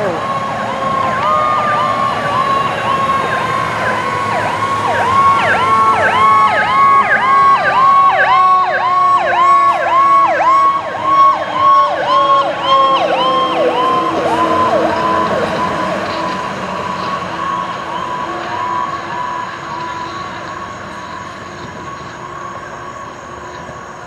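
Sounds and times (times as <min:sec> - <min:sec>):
siren yelp: 0:00.0 - 0:24.0
steady falling siren tone: 0:00.0 - 0:24.0.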